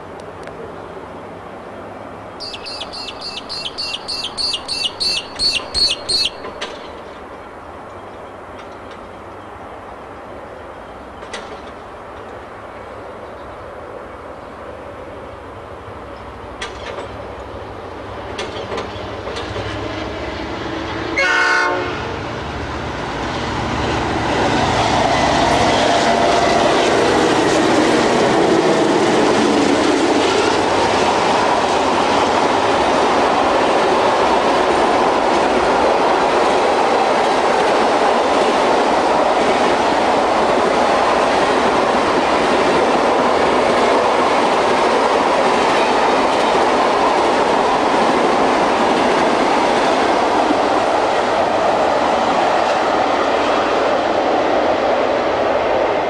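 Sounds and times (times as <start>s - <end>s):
diesel locomotives passing: 0.0s - 56.0s
train wheels clattering on rails: 2.4s - 9.4s, 11.0s - 12.8s, 16.0s - 56.0s.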